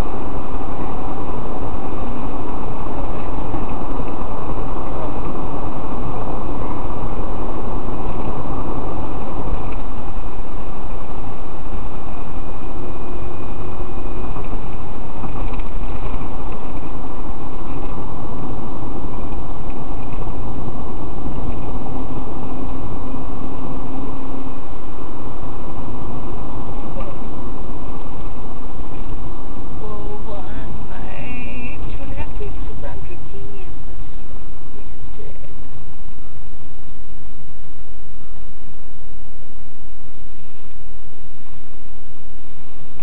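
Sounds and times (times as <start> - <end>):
car cabin road and engine noise: 0.0 - 43.0
faint hum: 0.0 - 43.0.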